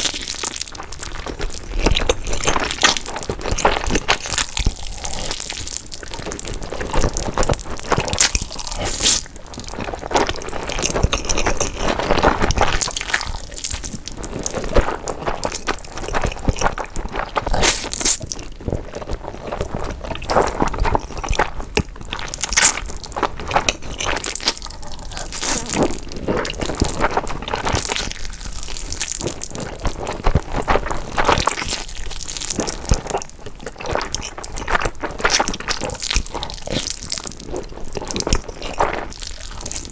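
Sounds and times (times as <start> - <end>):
slurping and chewing noodles: 0.0 - 39.9.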